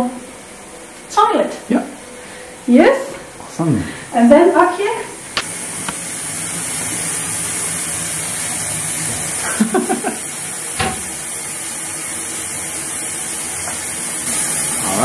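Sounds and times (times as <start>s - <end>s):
steady hiss of running water or fan: 0.0s - 15.0s.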